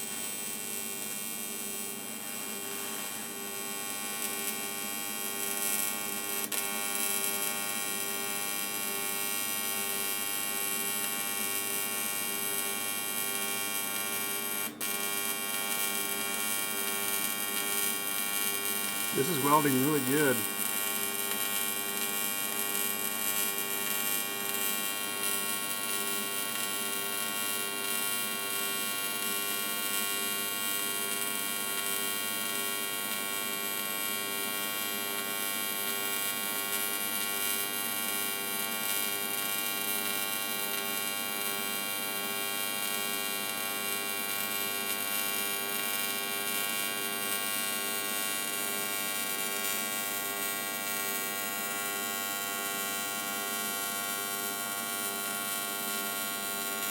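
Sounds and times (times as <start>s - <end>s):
welding arc buzzing: 0.1s - 9.2s, 10.0s - 56.9s.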